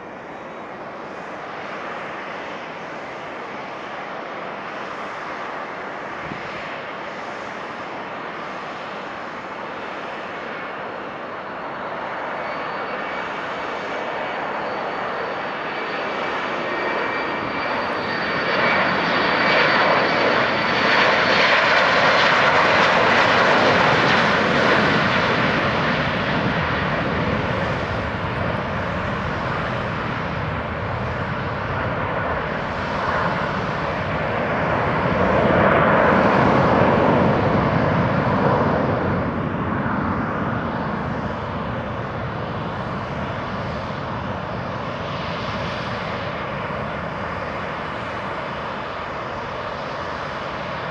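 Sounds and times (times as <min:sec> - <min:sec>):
jet engines at takeoff: 0:00.0 - 0:50.9.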